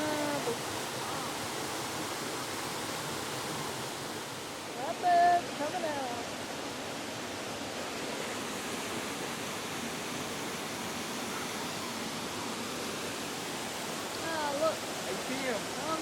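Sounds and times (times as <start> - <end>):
rapids flowing: 0.0 - 16.0
waterfall rushing: 0.0 - 16.0.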